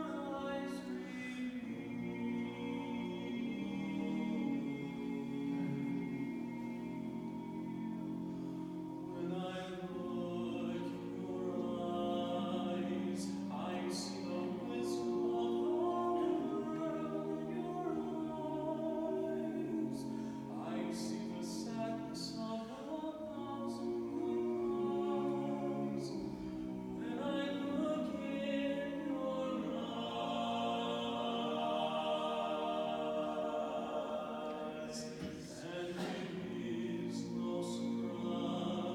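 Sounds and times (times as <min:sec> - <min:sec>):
group singing in close harmony: 0:00.0 - 0:38.9.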